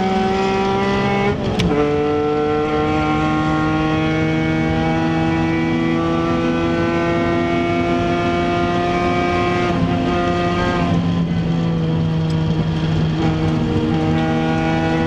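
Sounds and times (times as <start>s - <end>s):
car engine from inside cabin: 0.0s - 15.0s.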